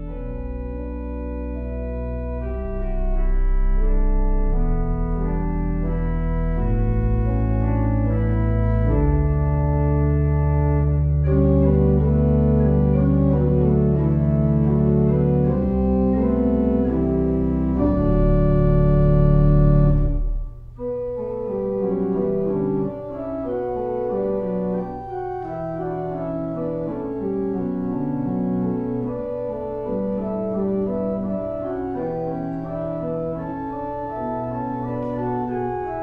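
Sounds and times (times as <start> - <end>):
slow organ music: 0.0 - 36.0.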